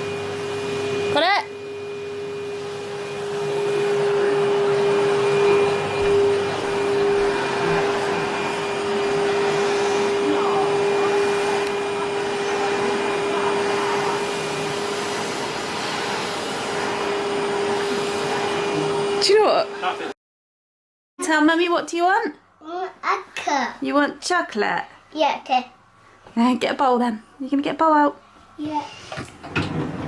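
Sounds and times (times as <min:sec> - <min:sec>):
vacuum cleaner running: 0:00.0 - 0:20.2, 0:25.8 - 0:30.0.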